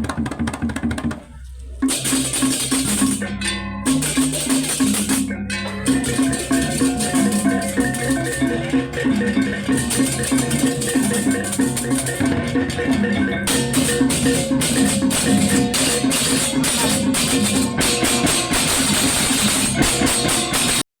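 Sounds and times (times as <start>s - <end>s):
drums: 0.0s - 20.9s
clashing cymbals: 1.3s - 20.8s.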